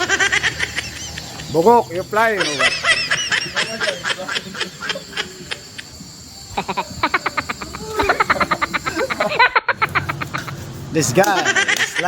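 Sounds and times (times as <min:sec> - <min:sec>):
men laughing hard: 0:00.0 - 0:12.0.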